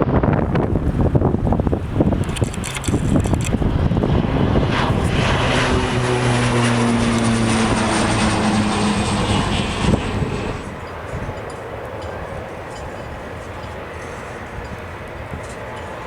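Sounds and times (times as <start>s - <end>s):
airplane engines passing: 0.0s - 16.0s.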